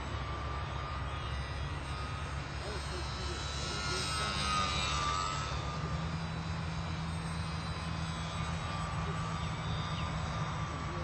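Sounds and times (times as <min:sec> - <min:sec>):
model plane motor whine: 0:00.0 - 0:11.0.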